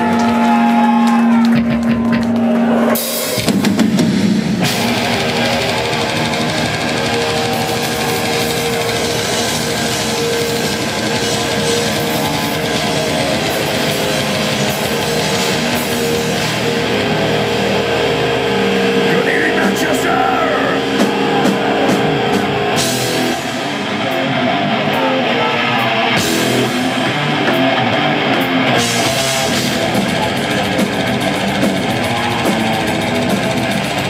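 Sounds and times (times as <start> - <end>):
death metal band playing live: 0.0 - 34.0.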